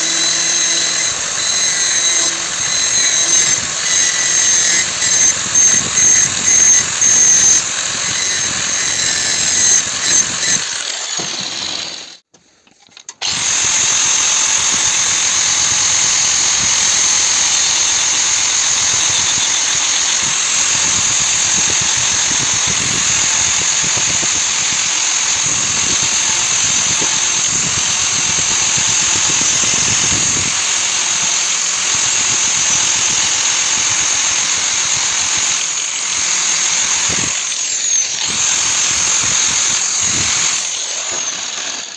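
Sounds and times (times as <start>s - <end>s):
power grinder grinding steel: 0.0s - 12.2s, 13.2s - 41.9s.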